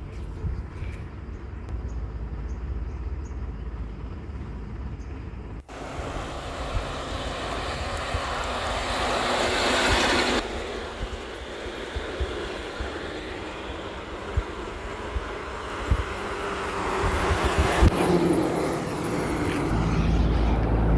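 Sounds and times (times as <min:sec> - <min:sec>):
road noise: 0:00.0 - 0:20.9
truck engine rumble: 0:00.0 - 0:20.9.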